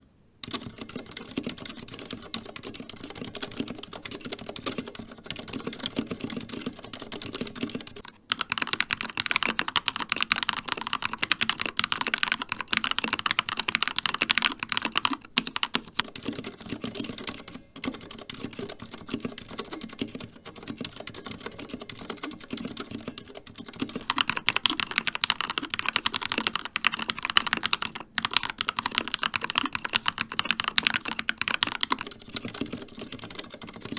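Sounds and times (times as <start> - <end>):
bright keyboard clacking: 0.4 - 33.9
muffled keyboard typing: 0.4 - 33.9.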